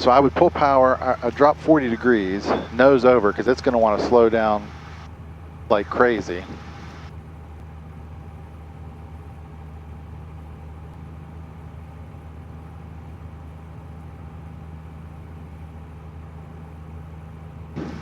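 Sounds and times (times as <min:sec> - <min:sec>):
airplane engine and propeller drone: 0:00.0 - 0:18.0.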